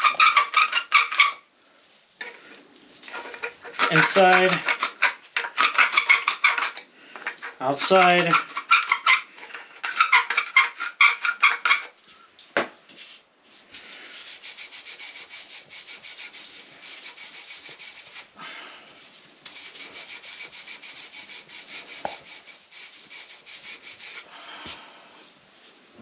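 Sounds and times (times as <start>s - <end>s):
scrubbing copper pipe: 0.0s - 1.4s, 2.2s - 12.0s, 13.0s - 18.4s, 19.0s - 24.3s.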